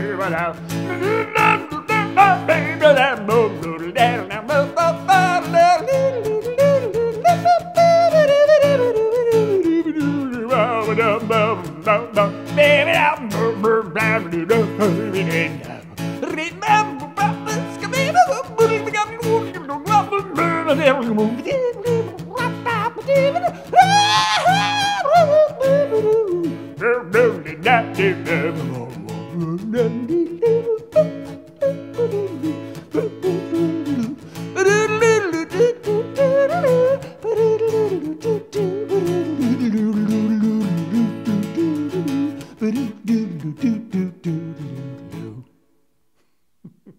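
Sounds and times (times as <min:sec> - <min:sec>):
man singing wordlessly: 0:00.0 - 0:45.6
acoustic guitar strumming: 0:00.0 - 0:45.8.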